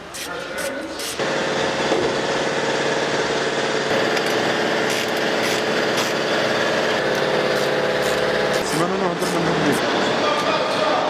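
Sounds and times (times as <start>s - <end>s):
motor running steadily: 1.1s - 11.0s.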